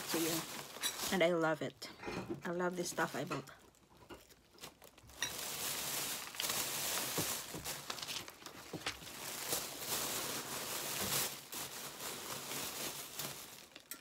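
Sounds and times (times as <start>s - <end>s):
packaging crinkling: 0.0s - 1.3s, 3.6s - 14.0s.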